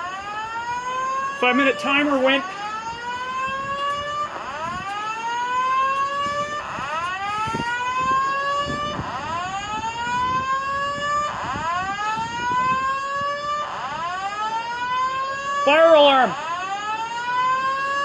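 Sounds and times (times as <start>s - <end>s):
fire alarm whoop tone: 0.0s - 18.0s.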